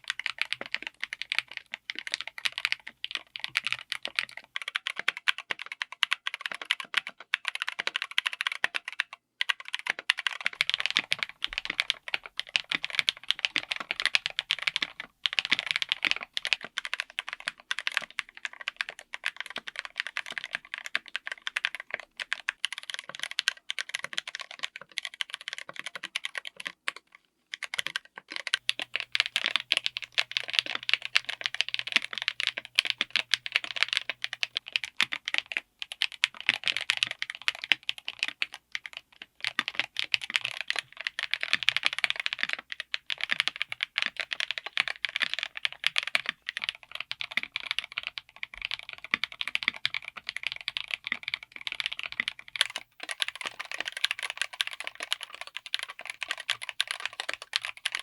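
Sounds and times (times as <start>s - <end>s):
typing on mechanical keyboard: 0.0s - 58.0s.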